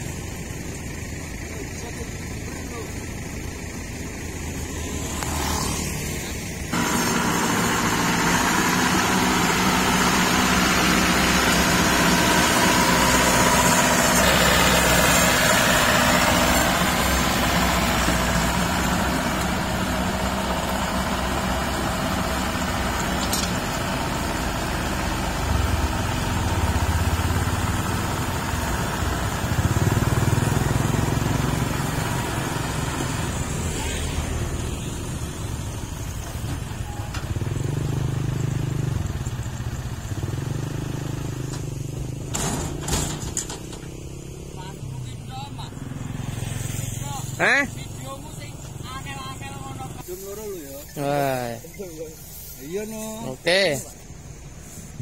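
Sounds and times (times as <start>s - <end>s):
combine harvester diesel engine: 0.0s - 55.0s.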